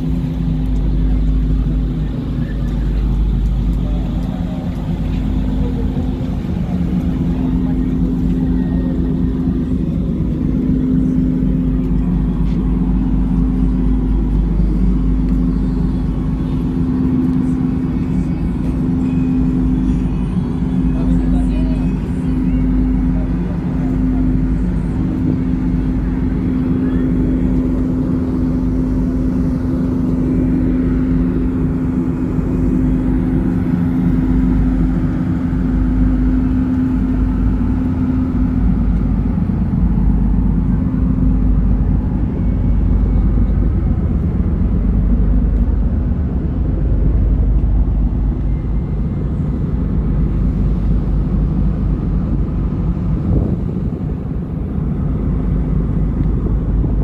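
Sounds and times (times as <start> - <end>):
ferry engines droning: 0.0 - 57.0
steady hum tone: 0.0 - 57.0.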